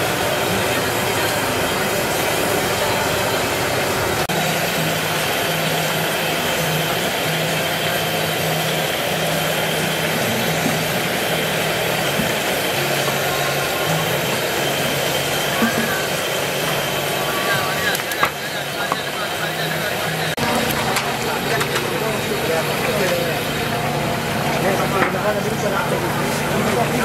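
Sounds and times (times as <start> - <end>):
food deep-frying in oil: 0.1 - 27.0.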